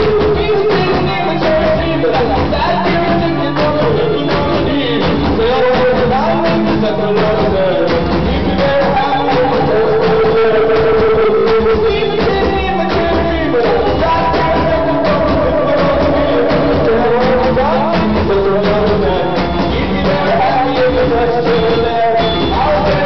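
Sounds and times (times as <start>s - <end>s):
electric guitar: 0.0s - 23.0s
person singing long notes: 0.0s - 23.0s
steady drum beat: 0.0s - 23.0s.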